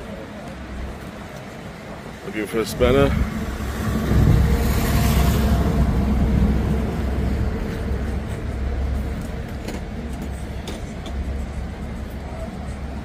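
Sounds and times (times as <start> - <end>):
engine rumbling: 0.0 - 13.0.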